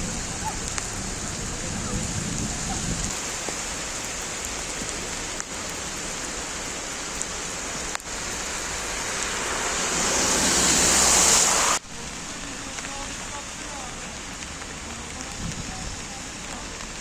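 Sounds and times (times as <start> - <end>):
heavy rain on a street: 0.0 - 17.0
tyres hissing on wet road: 0.0 - 17.0.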